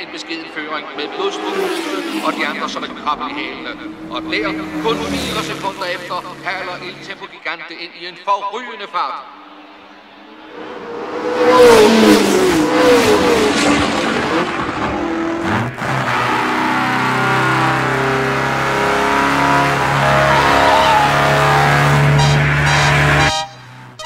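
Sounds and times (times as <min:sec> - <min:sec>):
racing car engine at full speed: 0:00.0 - 0:07.4, 0:09.2 - 0:24.0.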